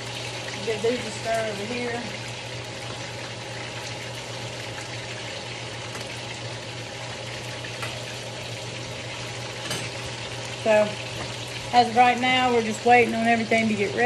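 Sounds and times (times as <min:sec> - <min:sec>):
food sizzling in skillets: 0:00.0 - 0:14.0.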